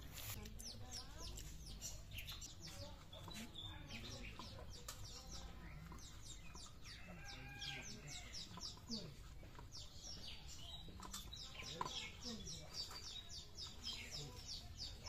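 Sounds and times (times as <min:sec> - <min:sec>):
small birds chirping: 0:00.0 - 0:15.0
chickens clucking: 0:00.4 - 0:15.0.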